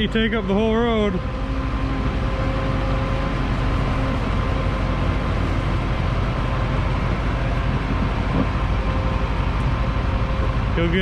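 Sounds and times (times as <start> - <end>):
combine diesel engine driving past: 0.0 - 11.0.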